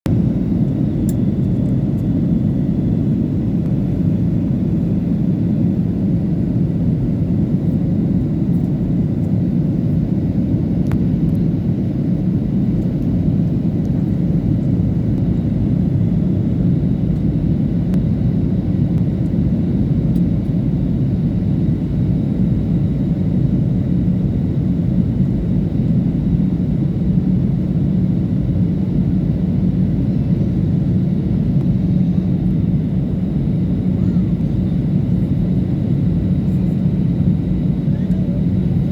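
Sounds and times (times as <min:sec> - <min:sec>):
airliner cabin rumble: 0:00.1 - 0:38.9.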